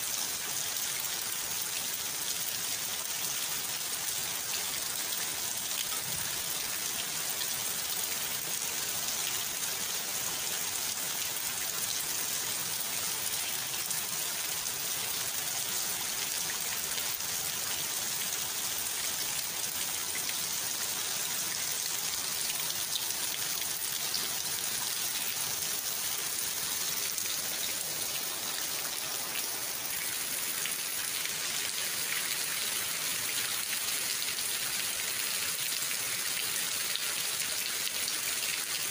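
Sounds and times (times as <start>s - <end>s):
steady rain on puddles and leaves: 0.0s - 38.9s.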